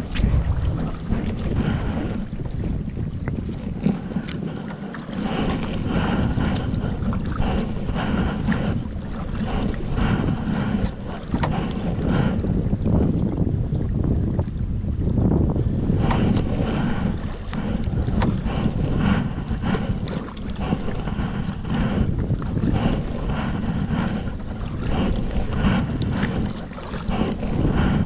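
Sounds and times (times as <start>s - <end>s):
water splashing against kayak: 0.0s - 28.0s
wind buffeting microphone: 0.0s - 28.0s.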